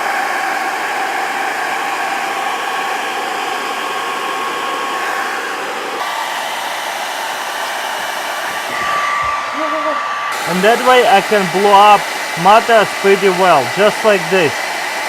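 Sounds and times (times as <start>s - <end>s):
hair dryer blowing air with a whine: 0.0s - 15.0s.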